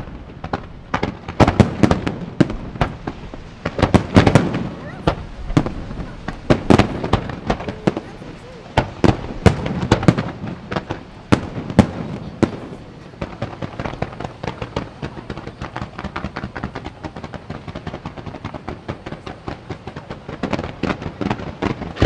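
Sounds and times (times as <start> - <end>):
firework bangs: 0.0 - 22.0
firework crackling: 0.0 - 22.0.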